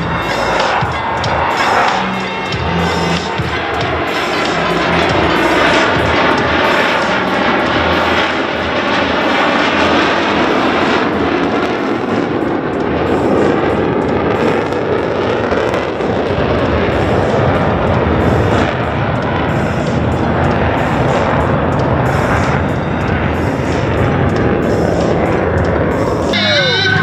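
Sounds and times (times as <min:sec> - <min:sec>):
jet planes flying past: 0:00.0 - 0:27.0.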